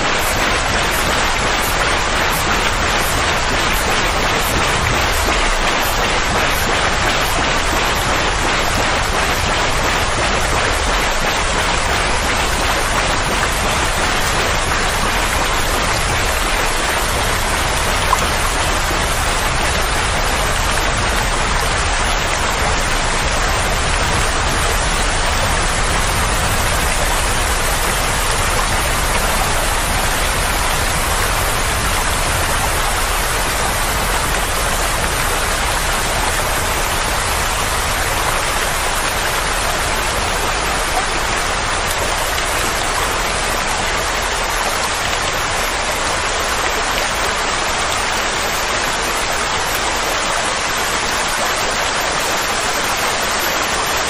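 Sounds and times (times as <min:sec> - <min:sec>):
rain rushing: 0:00.0 - 0:54.0.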